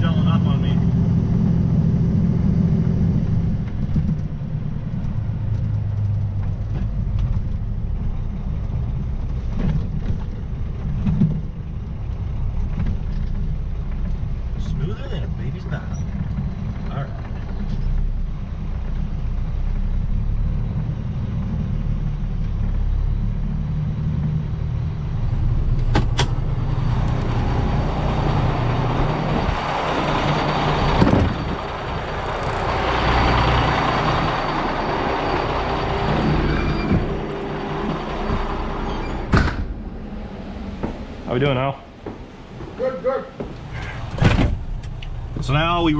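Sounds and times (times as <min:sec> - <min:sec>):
diesel truck engine rumble: 0:00.0 - 0:45.9.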